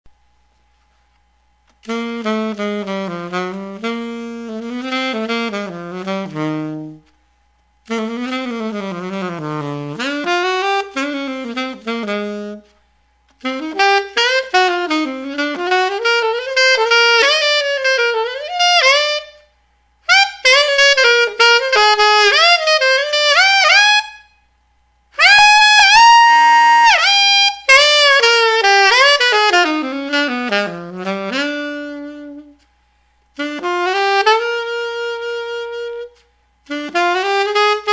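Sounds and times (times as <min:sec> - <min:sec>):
alto saxophone solo: 0:01.7 - 0:24.5, 0:25.1 - 0:37.9.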